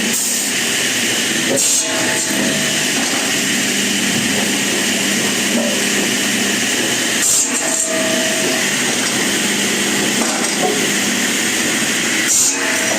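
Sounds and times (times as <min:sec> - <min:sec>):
motor-driven saw cutting wood: 0:00.0 - 0:12.9.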